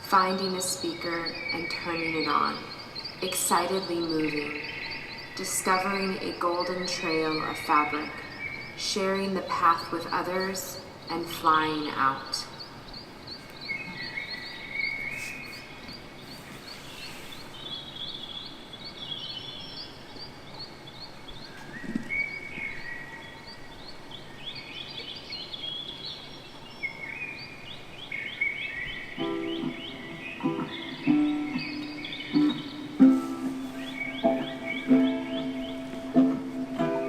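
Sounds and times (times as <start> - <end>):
birds chirping in trills: 0.0 - 37.0
light steady hiss: 0.0 - 37.0.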